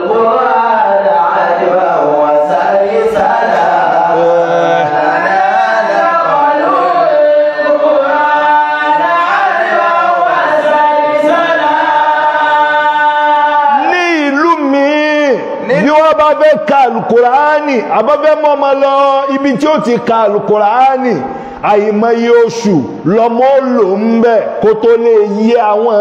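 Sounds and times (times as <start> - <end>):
man chanting: 0.0 - 26.0.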